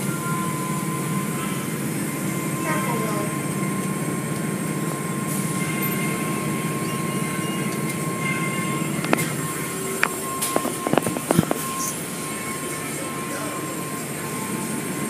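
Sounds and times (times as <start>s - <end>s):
machinery rumble: 0.0s - 15.0s.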